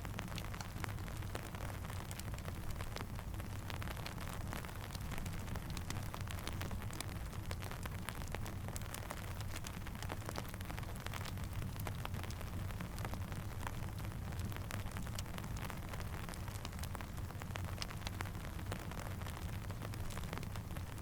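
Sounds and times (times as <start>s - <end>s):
rainfall: 0.0s - 21.0s
campfire crackling: 0.1s - 21.0s.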